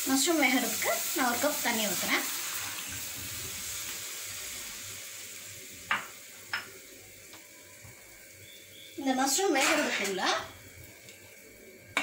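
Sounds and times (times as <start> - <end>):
water sizzling in hot pan: 0.0 - 12.0.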